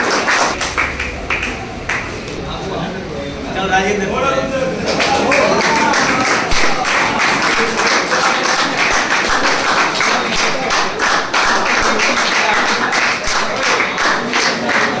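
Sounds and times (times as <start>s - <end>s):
group clapping in rhythm: 0.0s - 2.4s, 4.8s - 15.0s.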